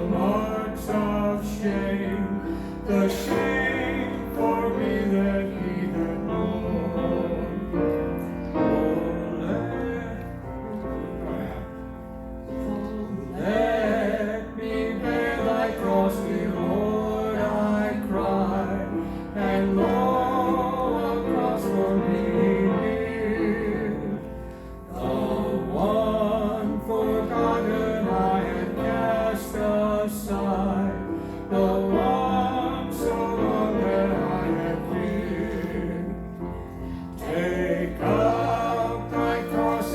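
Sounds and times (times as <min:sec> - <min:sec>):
gospel singing with vibrato: 0:00.0 - 0:39.9.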